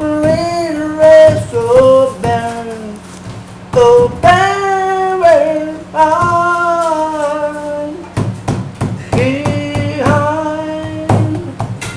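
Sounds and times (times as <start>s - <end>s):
man singing: 0.0s - 3.1s, 3.7s - 8.1s, 9.0s - 11.6s.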